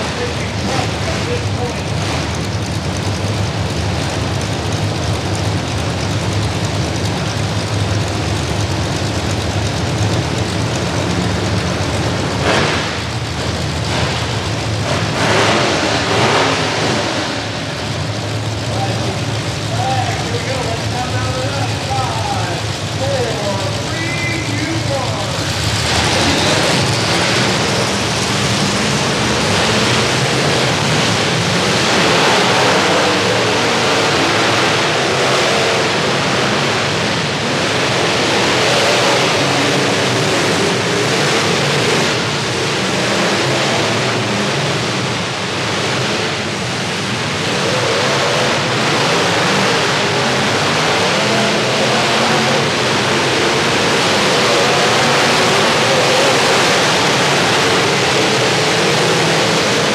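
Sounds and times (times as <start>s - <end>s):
many truck engines revving: 0.0s - 59.9s.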